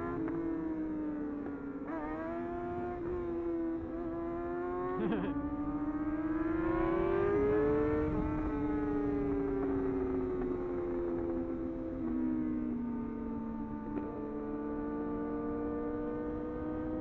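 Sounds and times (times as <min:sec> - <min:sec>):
motorbike engine at high revs: 0:00.0 - 0:17.0.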